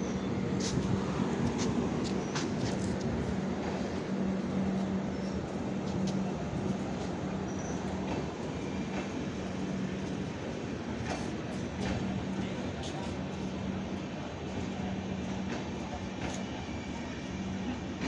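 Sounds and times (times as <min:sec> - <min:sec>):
train coaches rumbling: 0:00.0 - 0:18.0.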